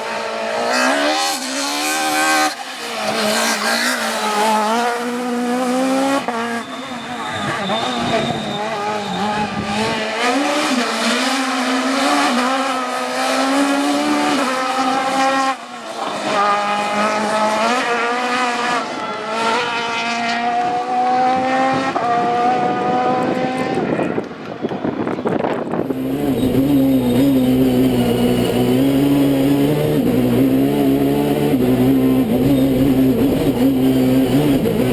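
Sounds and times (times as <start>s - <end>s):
rally car engine revving: 0.0s - 24.1s, 25.8s - 34.9s.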